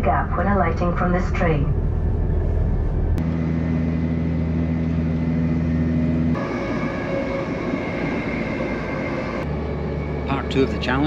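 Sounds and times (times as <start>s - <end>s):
train running hum and rumble: 0.0s - 11.0s.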